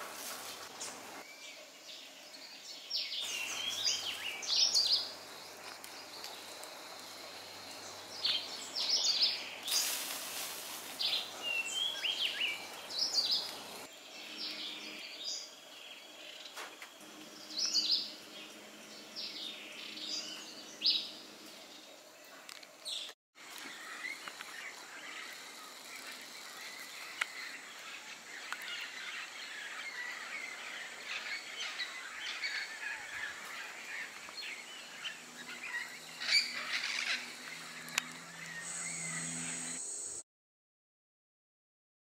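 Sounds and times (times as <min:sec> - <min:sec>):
birds chirping and calling: 0:03.2 - 0:06.5, 0:07.4 - 0:21.9, 0:22.8 - 0:39.9.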